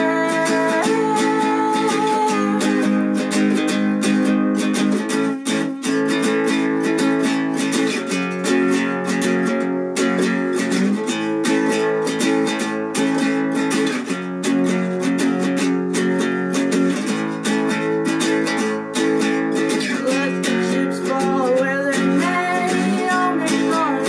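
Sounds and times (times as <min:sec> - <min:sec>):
classical guitar chords: 0:00.0 - 0:24.0.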